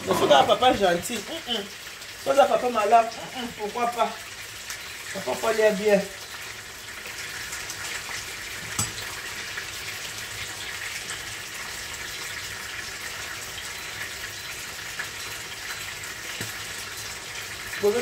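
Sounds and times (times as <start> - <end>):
sauce sizzling in a pot: 0.0 - 18.0.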